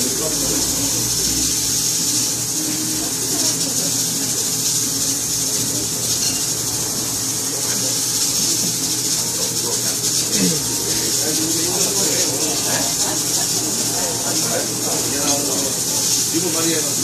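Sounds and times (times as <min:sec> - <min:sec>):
faint indistinct voices: 0:00.0 - 0:17.0
stove and ventilation hiss: 0:00.0 - 0:17.0.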